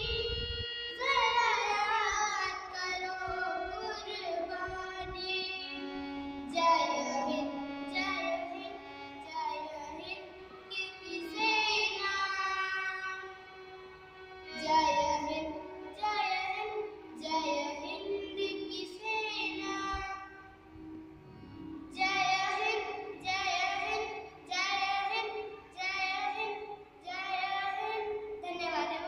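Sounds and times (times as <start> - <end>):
girl singing: 0.0 - 13.4, 14.5 - 20.6, 21.9 - 29.0
harmonium holding notes: 0.0 - 29.0.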